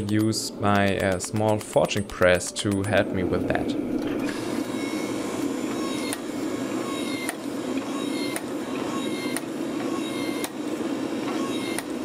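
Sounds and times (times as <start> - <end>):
hydraulic press running: 1.2 - 12.0.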